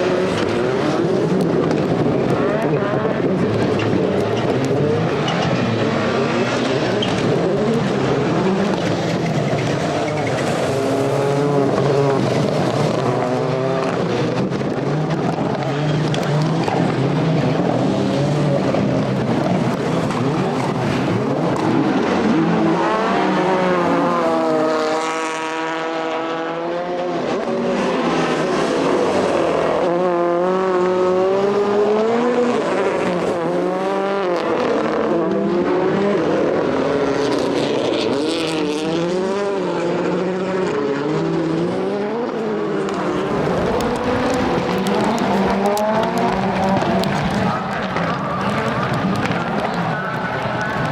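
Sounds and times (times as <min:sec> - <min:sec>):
race car engines revving: 0:00.0 - 0:50.9.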